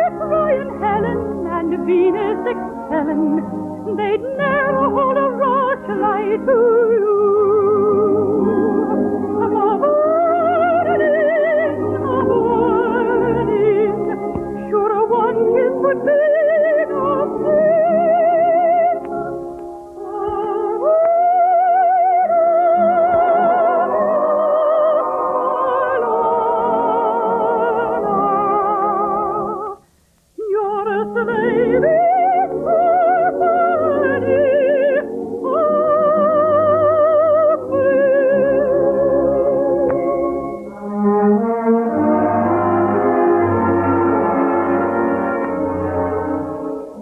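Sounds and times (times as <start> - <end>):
soprano singing with vibrato: 0.0 - 19.4, 20.0 - 29.8, 30.4 - 40.6
orchestral music: 0.0 - 29.8, 31.0 - 47.0.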